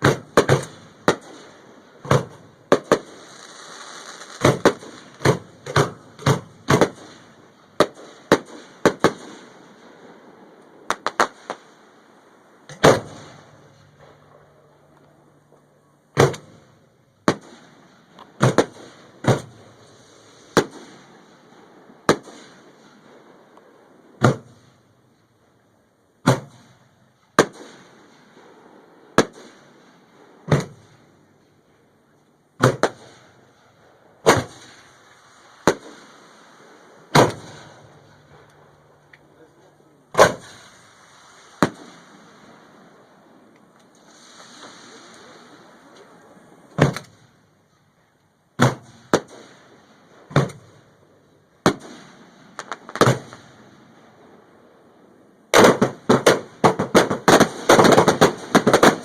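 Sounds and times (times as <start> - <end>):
fireworks bangs: 0.0 - 24.9, 26.2 - 31.8, 32.5 - 47.7, 48.6 - 59.0.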